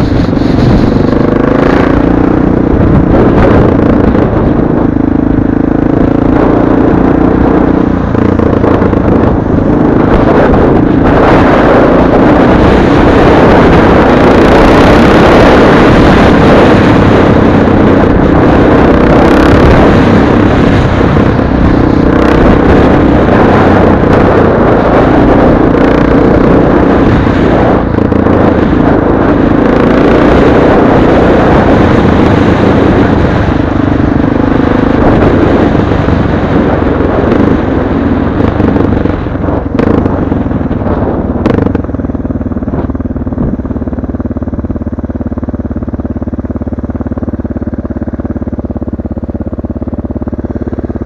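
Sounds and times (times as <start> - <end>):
motorcycle engine running: 0.0 - 51.0
wind and road noise: 0.0 - 51.0.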